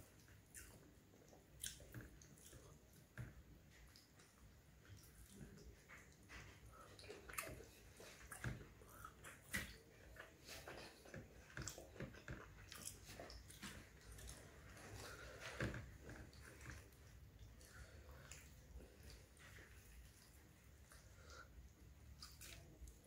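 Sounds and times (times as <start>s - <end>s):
chewing: 0.0s - 23.0s
fingers squishing food: 0.1s - 23.0s.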